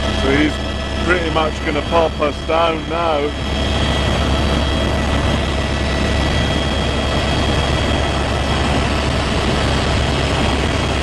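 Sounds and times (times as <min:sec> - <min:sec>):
helicopter engine and rotors: 0:00.0 - 0:11.0.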